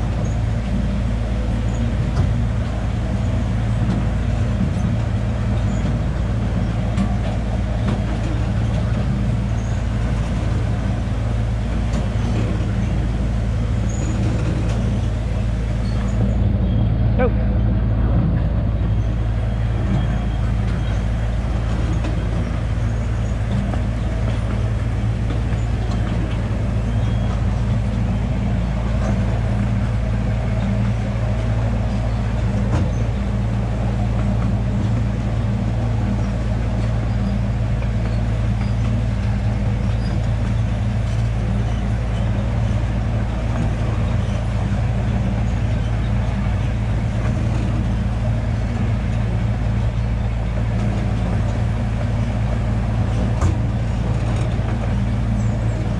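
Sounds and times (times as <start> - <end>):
small train engine droning: 0.0 - 55.9.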